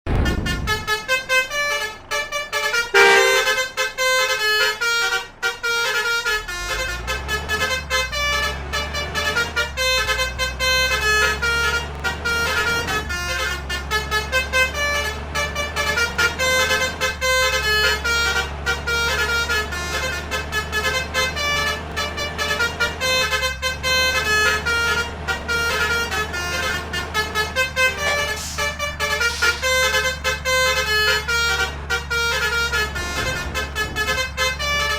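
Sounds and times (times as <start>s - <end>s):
musical air horn melody: 0.1s - 34.9s.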